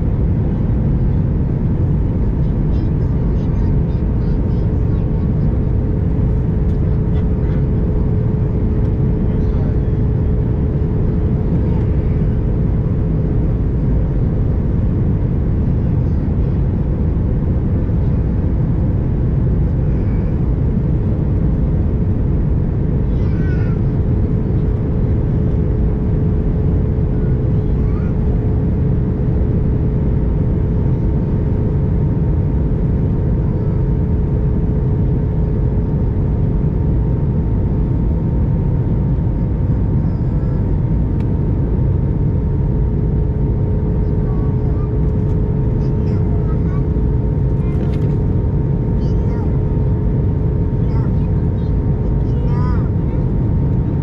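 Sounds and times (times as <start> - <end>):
airplane cabin roar: 0.0 - 54.0
steady hum tone: 0.0 - 54.0.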